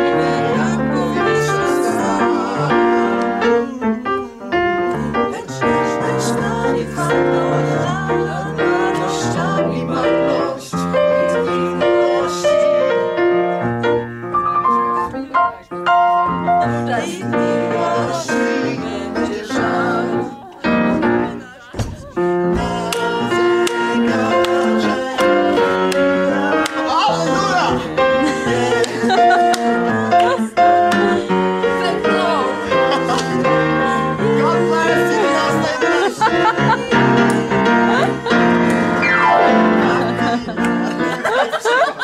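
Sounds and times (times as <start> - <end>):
piano music: 0.0 - 42.0.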